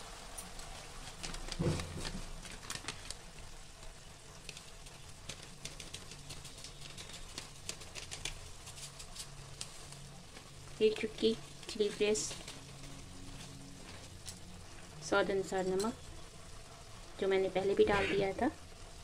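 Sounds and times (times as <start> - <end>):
food sizzling in a wok: 0.0 - 19.0
crackles and pops: 0.2 - 19.0.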